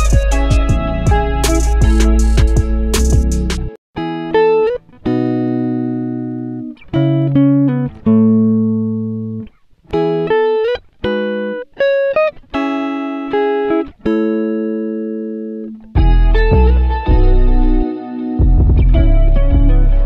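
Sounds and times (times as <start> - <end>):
plucked string music: 0.0 - 20.0.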